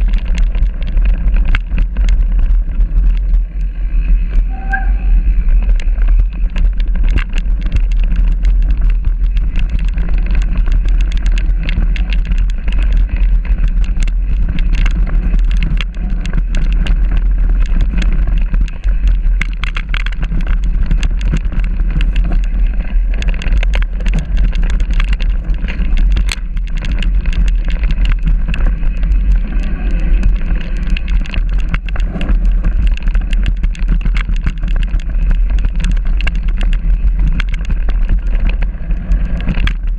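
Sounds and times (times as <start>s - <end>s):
bike rattling and clicking: 0.0s - 39.9s
mountain bike rumble on trail: 0.0s - 39.9s.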